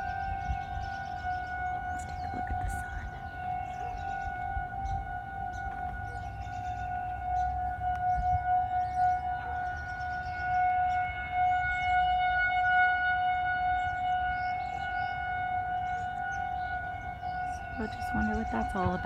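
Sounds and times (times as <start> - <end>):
warning siren steady tone: 0.0 - 19.0.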